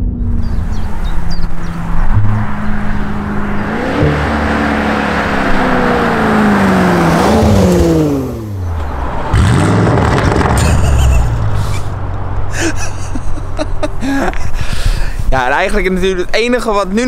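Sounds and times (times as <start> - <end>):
loud low engine rumble: 0.0 - 15.2.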